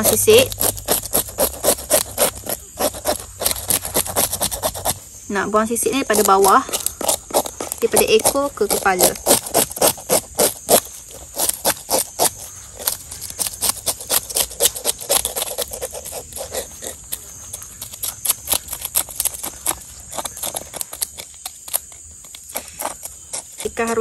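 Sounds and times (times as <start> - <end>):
fish scaler scraping scales: 0.0 - 24.0.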